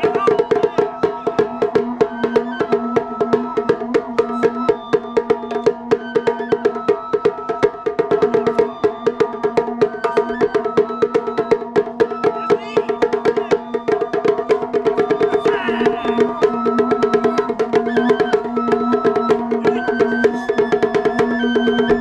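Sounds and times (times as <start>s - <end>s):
drum ensemble playing: 0.0s - 22.0s.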